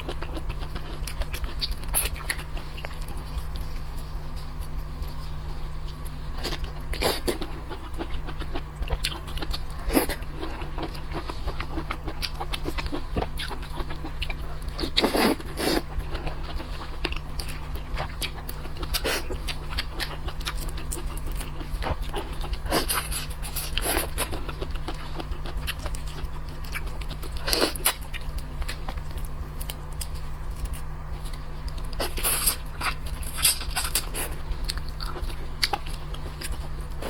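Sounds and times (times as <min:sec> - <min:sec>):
person chewing crunchy food: 0:00.0 - 0:37.0
steady low hum: 0:00.0 - 0:37.0.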